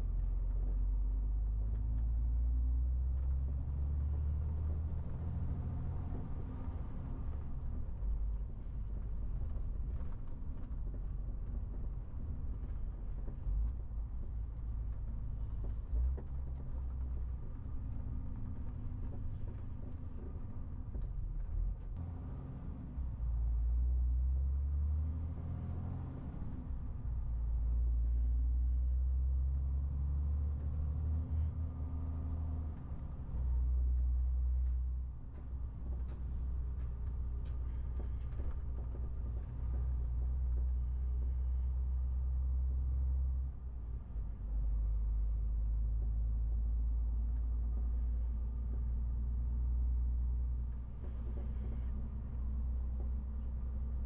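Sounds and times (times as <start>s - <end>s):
diesel truck engine rumble: 0.0s - 54.0s
road noise: 3.2s - 54.0s.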